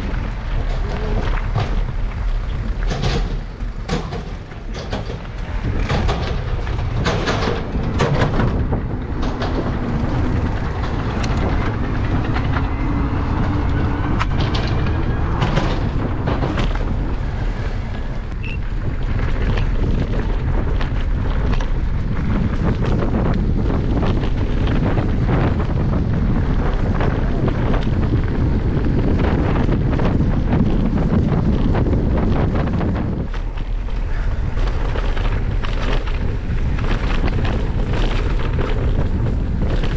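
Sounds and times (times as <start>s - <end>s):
bike knocks and rattles: 0.0s - 39.9s
wind rumble on microphone: 0.0s - 39.9s.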